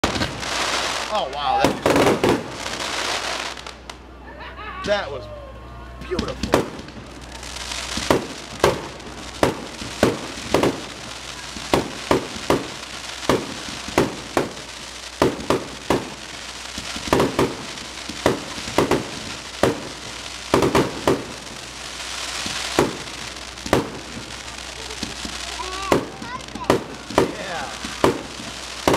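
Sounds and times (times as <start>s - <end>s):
fireworks booming: 0.0s - 4.2s, 6.0s - 28.9s
crackling hiss: 0.0s - 5.2s, 6.0s - 28.9s.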